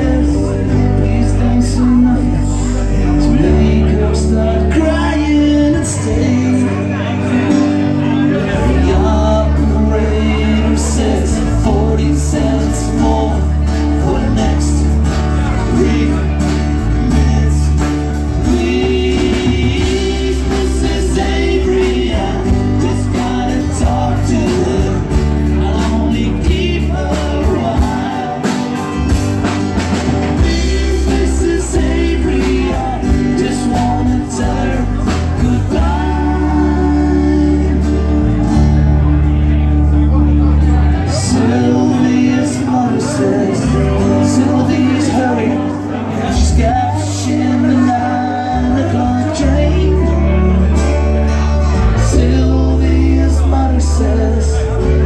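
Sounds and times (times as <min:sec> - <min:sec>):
live band playing: 0:00.0 - 0:55.0
person singing lead vocal: 0:00.0 - 0:55.0.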